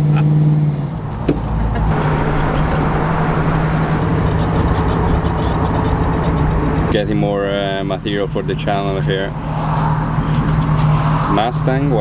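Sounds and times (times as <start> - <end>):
road and wind noise: 0.0 - 12.0
car engine running: 1.3 - 12.0.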